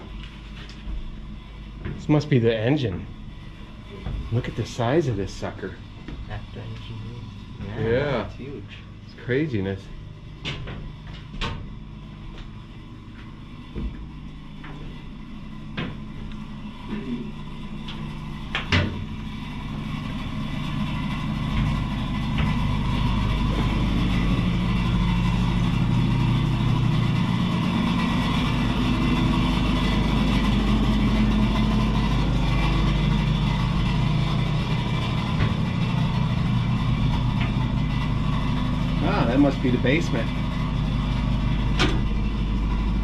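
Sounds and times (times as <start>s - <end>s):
low machinery hum: 0.0s - 43.0s.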